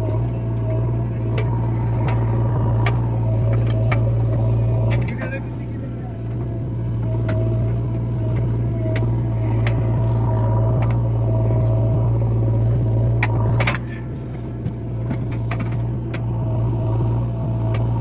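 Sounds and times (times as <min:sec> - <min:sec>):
diesel engine running under work: 0:00.0 - 0:18.0.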